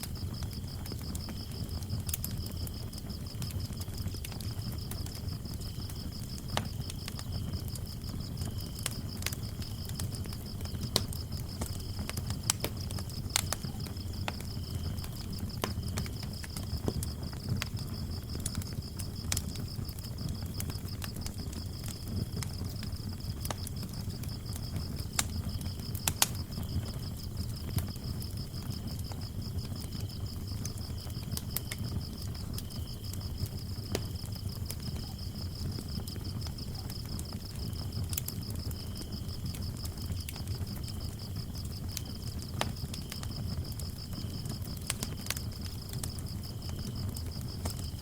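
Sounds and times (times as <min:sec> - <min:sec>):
crickets trilling: 0:00.0 - 0:48.0
lower cricket chirping: 0:00.0 - 0:48.0
wood fire crackling: 0:00.0 - 0:48.0.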